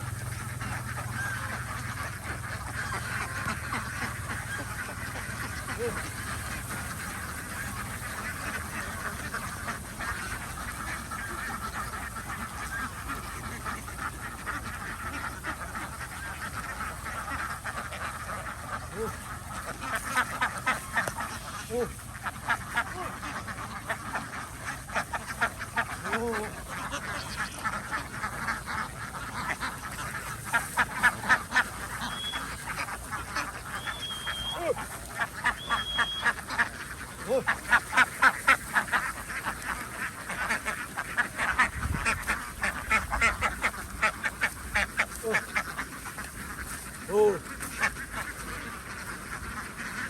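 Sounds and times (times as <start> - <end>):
flock of ducks quacking: 0.0 - 50.0.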